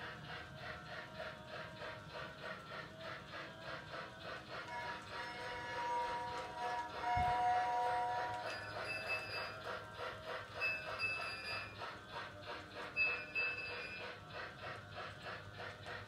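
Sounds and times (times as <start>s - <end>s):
toy train clicking on track: 0.0s - 16.0s.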